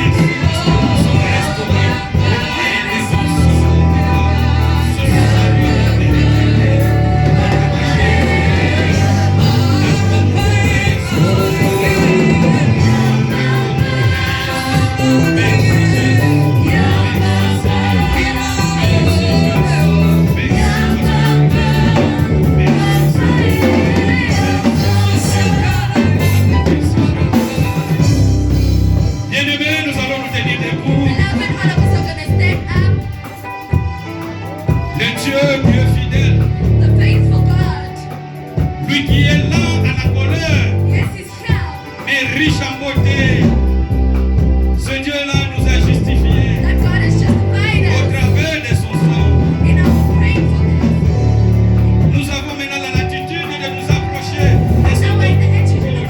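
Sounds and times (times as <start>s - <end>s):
heavy bass line: 0.0s - 33.2s, 34.7s - 37.8s, 38.5s - 41.2s, 42.6s - 52.4s, 54.2s - 56.0s
instrumental backing: 0.0s - 56.0s
voices singing gospel: 0.0s - 56.0s.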